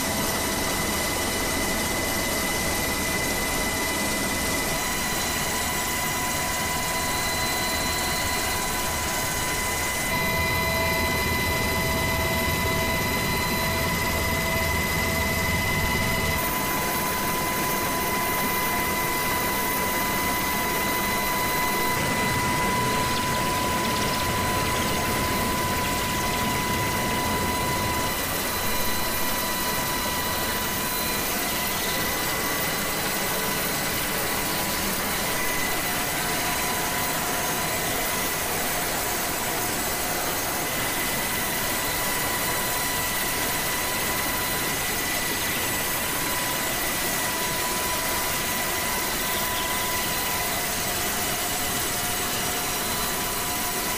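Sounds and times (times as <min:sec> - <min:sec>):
helicopter turbine and rotor: 0:00.0 - 0:53.9.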